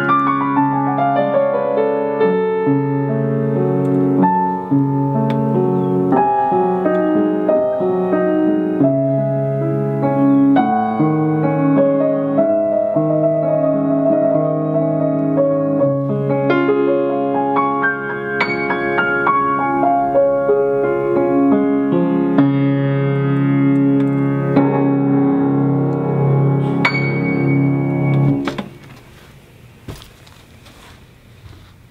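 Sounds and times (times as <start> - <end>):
piano chords and melody: 0.0 - 29.6.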